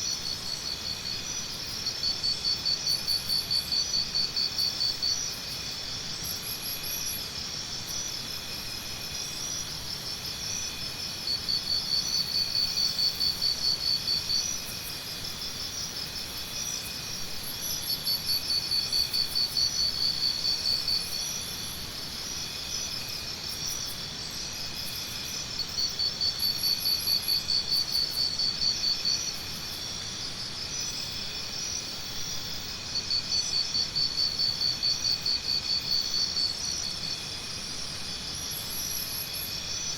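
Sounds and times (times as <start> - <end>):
chorus of chirping insects: 0.0 - 39.9.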